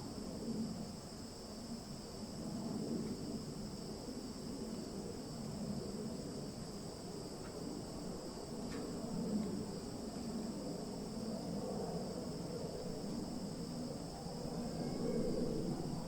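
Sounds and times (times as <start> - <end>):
insects chirring: 0.2 - 16.0.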